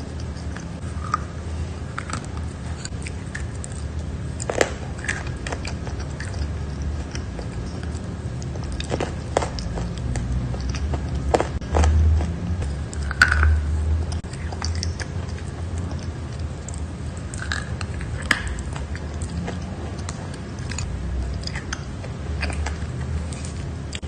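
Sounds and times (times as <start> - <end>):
person chewing chalk: 0.0 - 24.0.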